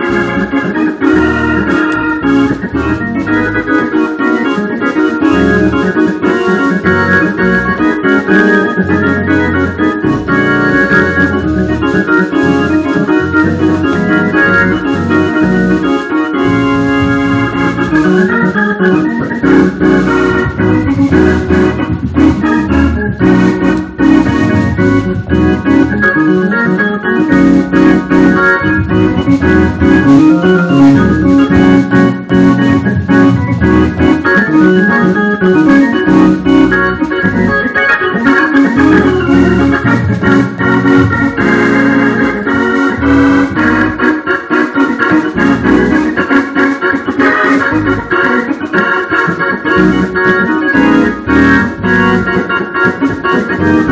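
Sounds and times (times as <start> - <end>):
organ playing gospel music: 0.0 - 53.9.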